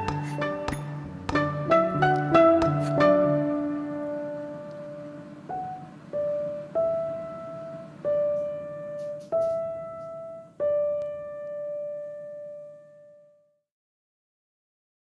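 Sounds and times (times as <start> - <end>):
slow piano melody: 0.0 - 13.6.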